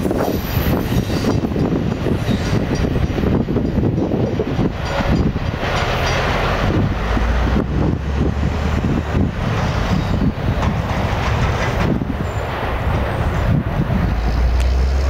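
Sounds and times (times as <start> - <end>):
freight train rumbling: 0.0 - 15.0
train cars clattering: 0.0 - 15.0.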